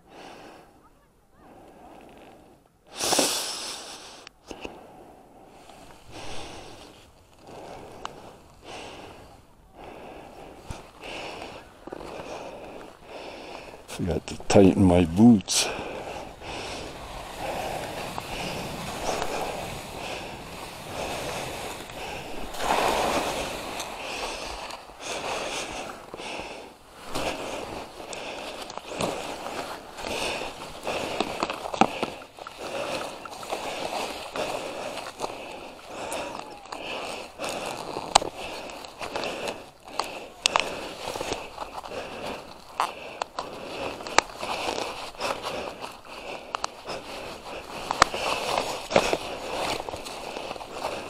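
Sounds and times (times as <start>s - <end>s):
skis swooshing through snow: 2.4s - 4.2s, 10.2s - 51.0s.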